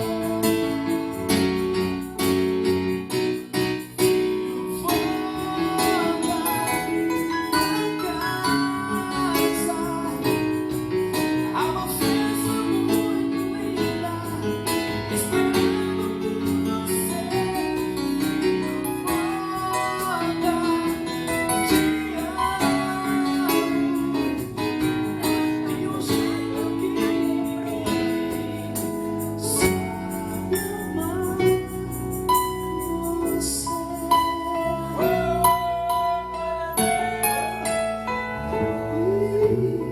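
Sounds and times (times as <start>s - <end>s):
tambourine: 0.0s - 39.5s
live band playing gospel: 0.0s - 39.9s.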